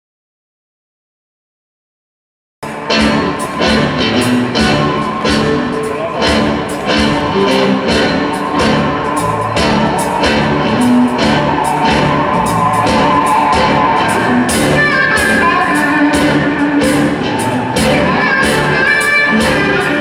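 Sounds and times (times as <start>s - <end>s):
bass guitar: 2.6s - 20.0s
electric guitars: 2.6s - 20.0s
drum beat: 2.9s - 20.0s.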